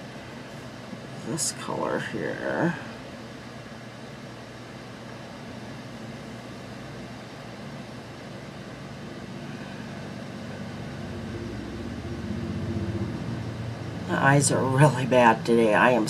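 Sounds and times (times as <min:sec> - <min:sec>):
low mechanical hum with hiss: 0:00.0 - 0:16.0.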